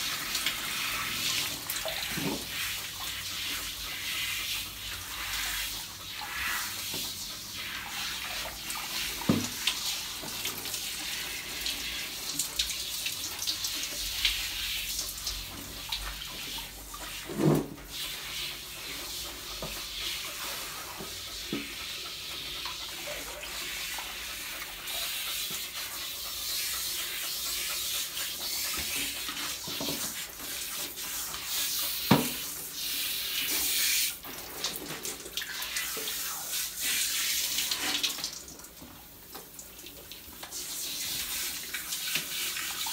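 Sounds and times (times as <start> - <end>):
shower water spraying: 0.0 - 38.6, 39.4 - 42.9.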